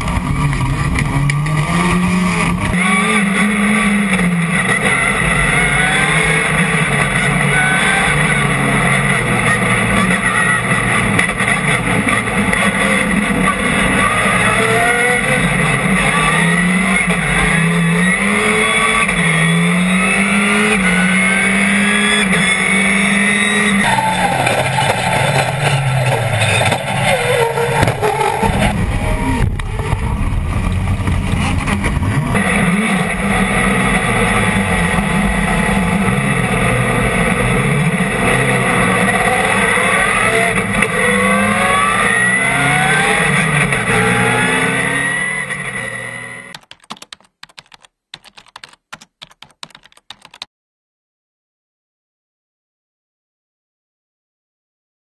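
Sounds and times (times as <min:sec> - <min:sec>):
race car engine revving: 0:00.0 - 0:46.6.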